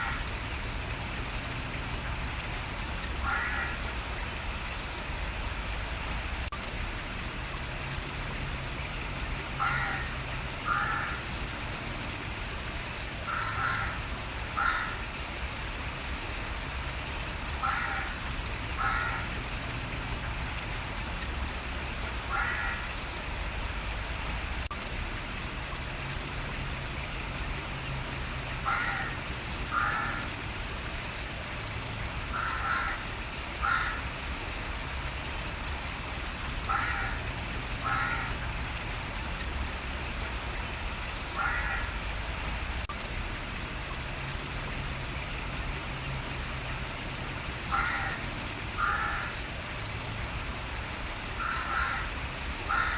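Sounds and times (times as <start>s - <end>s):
running water: 0.0s - 52.9s.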